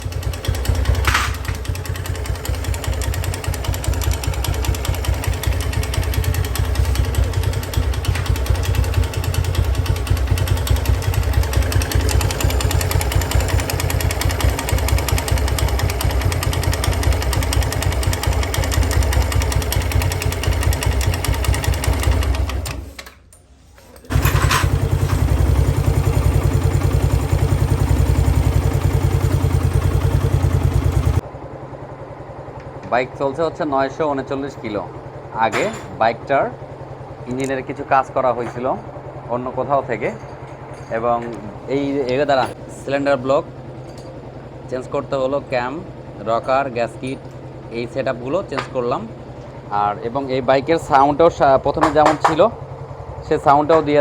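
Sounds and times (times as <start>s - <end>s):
motorcycle engine idling: 0.0s - 22.6s, 24.1s - 54.0s.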